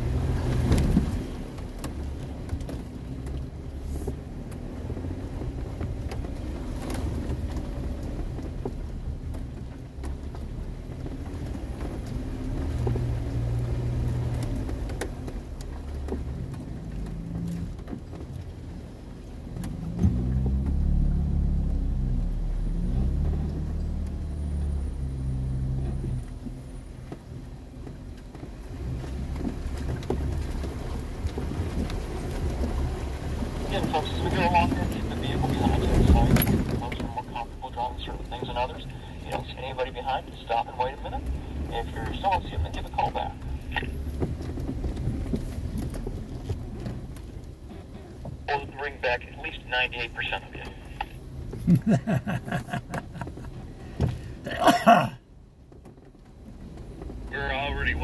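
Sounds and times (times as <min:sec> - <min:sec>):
vehicle engine running low: 0:00.0 - 0:54.6, 0:55.8 - 0:58.0.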